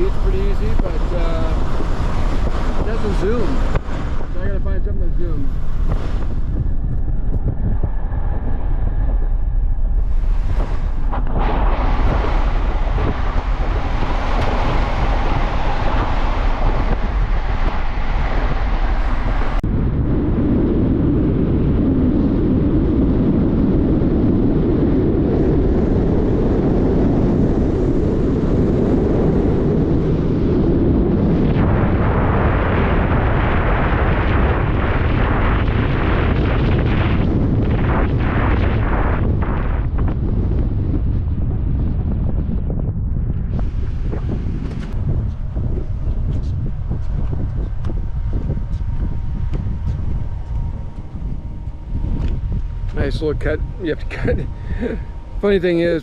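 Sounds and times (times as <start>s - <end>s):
low rumble: 0.0s - 56.0s
wind buffeting microphone: 0.0s - 56.0s.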